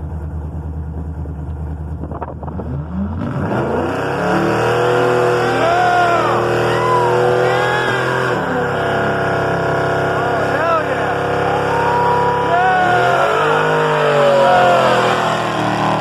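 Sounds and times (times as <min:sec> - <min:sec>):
engine idling and revving: 0:00.0 - 0:16.0.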